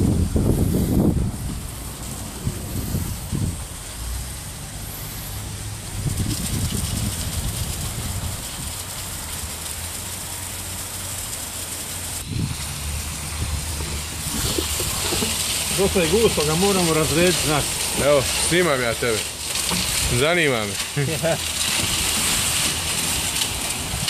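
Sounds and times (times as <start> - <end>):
engine running with low hum: 0.0 - 24.0
outdoor noise: 0.0 - 24.0.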